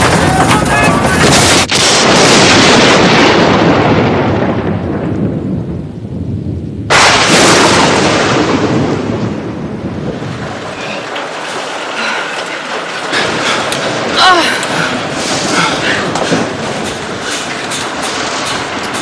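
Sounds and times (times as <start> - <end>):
thunder clap and rumble: 0.0 - 19.0.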